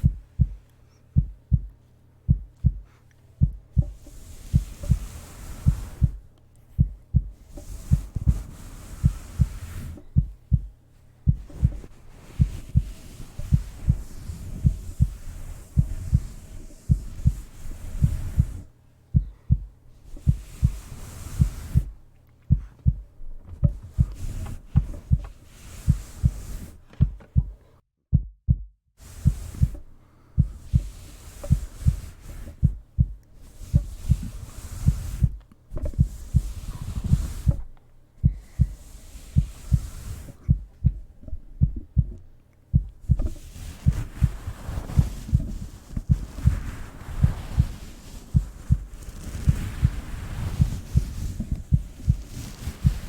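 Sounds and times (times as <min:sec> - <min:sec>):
rubbing on microphone: 0:00.0 - 0:27.6, 0:29.0 - 0:53.0
heartbeat thumps: 0:00.0 - 0:53.0.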